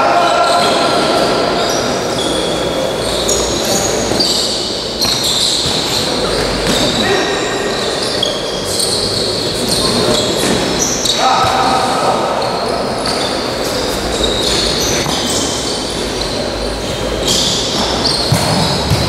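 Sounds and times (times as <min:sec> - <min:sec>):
shoes squeaking on sports floor: 0:00.1 - 0:19.0.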